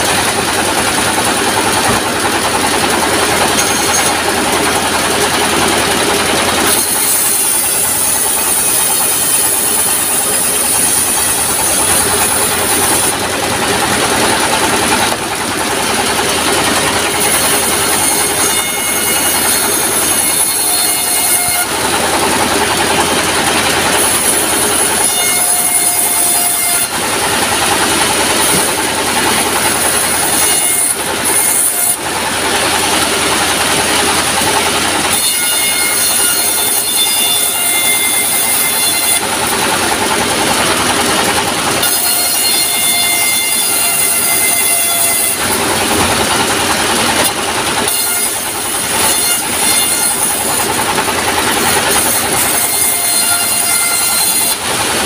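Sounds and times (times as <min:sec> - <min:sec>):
diesel engine running: 0:00.0 - 0:55.0
saw ripping planks: 0:00.0 - 0:55.0.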